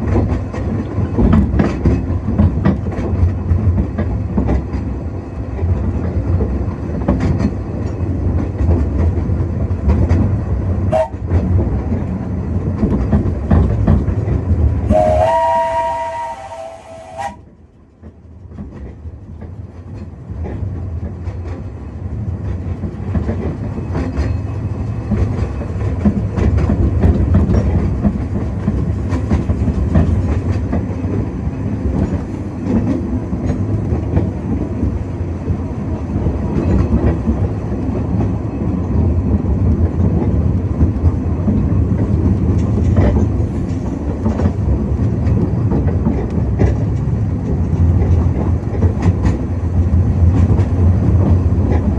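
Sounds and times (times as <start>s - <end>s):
steam train rumble: 0.0s - 51.9s.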